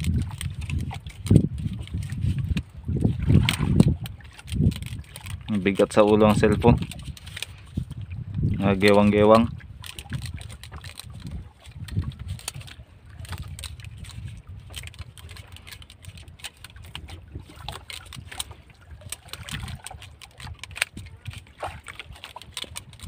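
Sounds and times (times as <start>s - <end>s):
fishing line clicks and taps: 0.0s - 23.0s
rumble of water and wind: 0.0s - 23.0s.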